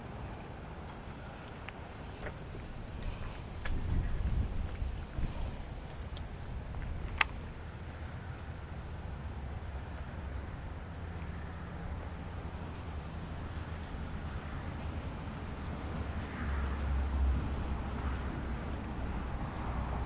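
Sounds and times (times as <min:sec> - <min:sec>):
wind rumble on microphone: 0:00.5 - 0:20.0.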